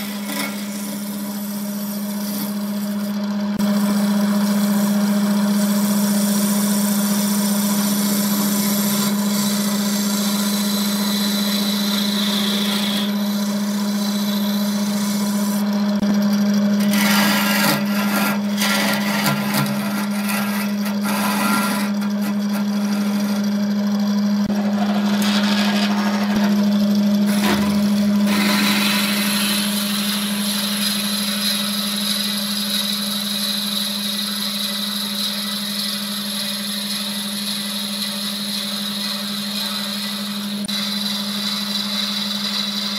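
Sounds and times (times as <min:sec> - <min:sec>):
chisel scraping spinning wood: 0:00.0 - 0:42.9
wood lathe humming: 0:00.0 - 0:42.9.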